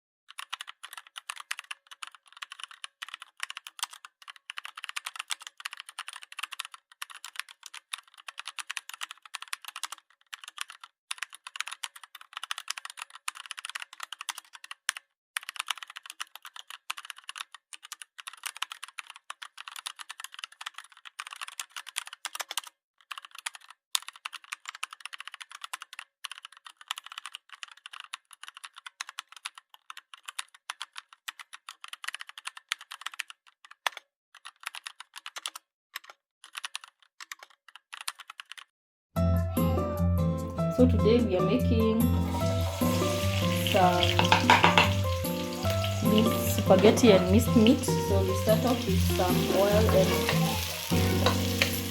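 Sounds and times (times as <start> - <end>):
rapid irregular clicking: 0.3 - 38.7, 42.3 - 51.9.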